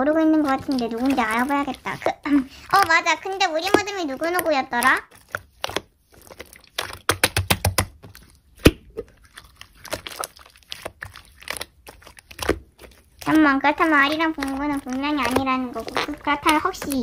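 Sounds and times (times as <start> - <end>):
slime squeezed sticky pops: 2.7 - 17.0.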